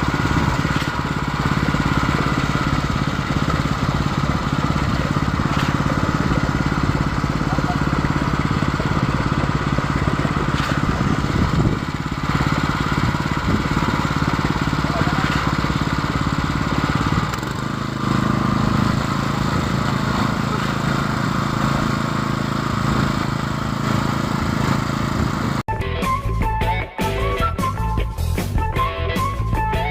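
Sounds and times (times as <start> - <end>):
concrete pump engine running: 0.0 - 25.7.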